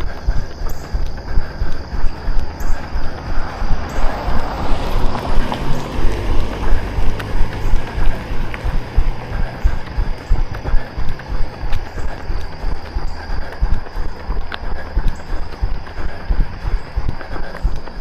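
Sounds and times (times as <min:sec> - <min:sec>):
running footfalls thudding: 0:00.0 - 0:18.0
wind buffeting microphone: 0:00.0 - 0:18.0
vehicle passing: 0:00.8 - 0:18.0.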